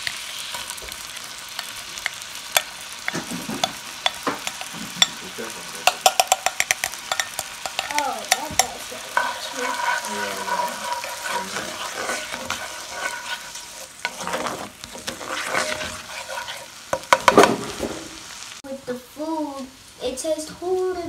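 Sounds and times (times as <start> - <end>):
spatula scraping pan: 0.0 - 18.3
onions sizzling in butter: 0.0 - 21.0.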